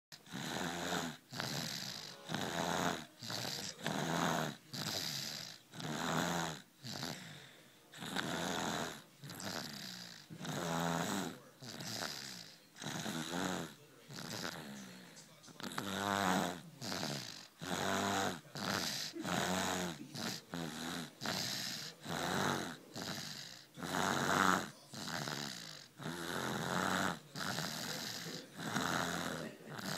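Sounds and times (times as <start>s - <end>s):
baby snoring: 0.1s - 29.9s.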